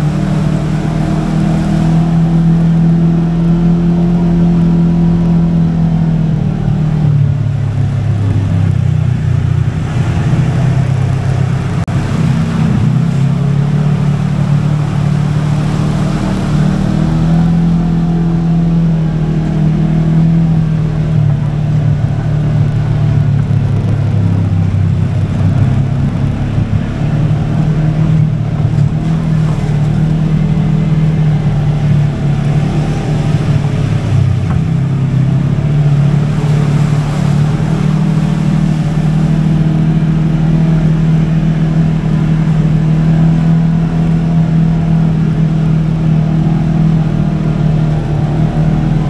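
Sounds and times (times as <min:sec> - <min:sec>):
engine running steadily: 0:00.0 - 0:49.0.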